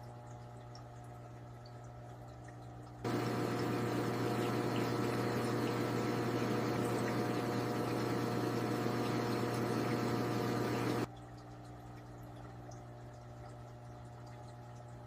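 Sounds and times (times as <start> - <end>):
aquarium water noise: 0.0 - 15.0
low motor hum: 2.1 - 15.0.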